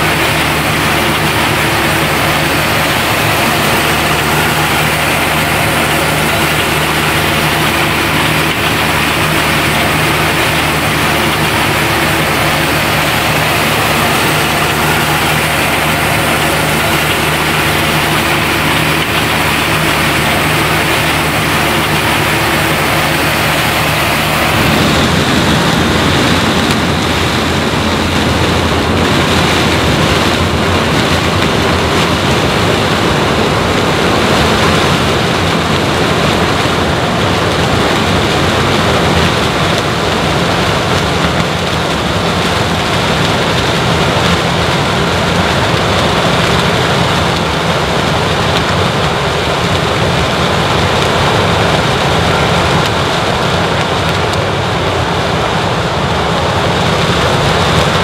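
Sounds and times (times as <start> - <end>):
diesel farm machinery running: 0.0 - 58.0.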